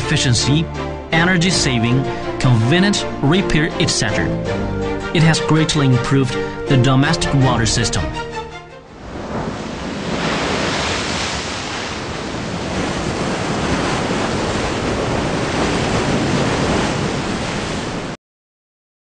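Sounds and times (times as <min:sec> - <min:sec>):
breaking ocean waves: 0:00.0 - 0:18.2.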